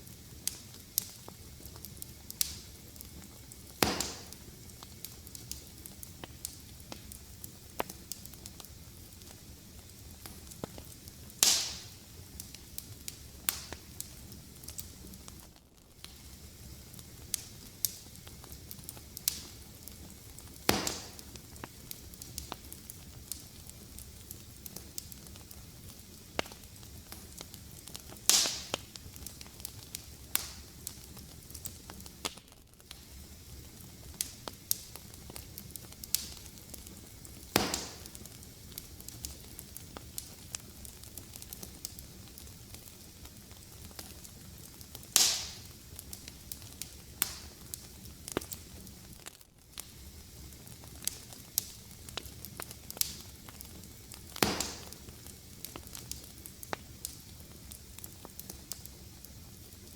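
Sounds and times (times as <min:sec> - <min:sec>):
fire crackling in a fireplace: 0:00.0 - 0:59.9
loud fire pops: 0:00.0 - 0:59.9.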